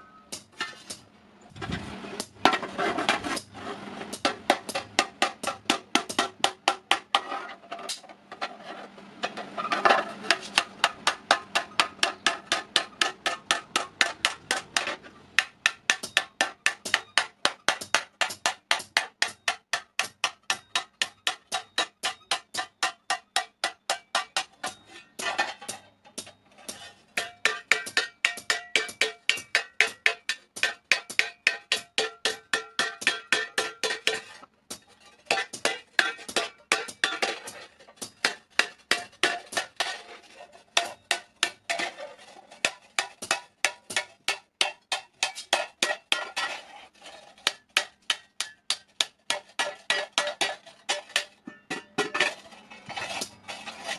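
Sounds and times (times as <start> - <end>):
hammer striking iron plate: 4.1 - 7.3, 9.2 - 40.1, 40.8 - 42.0, 42.6 - 46.6, 47.4 - 52.4.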